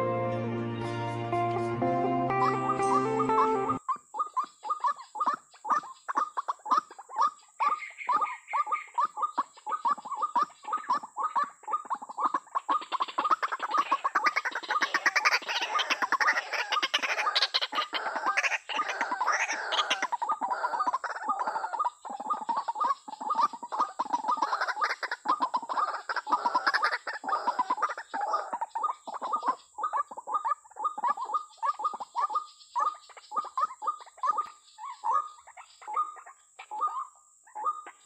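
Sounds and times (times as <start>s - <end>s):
waterhens croaking calls: 1.4s - 38.0s.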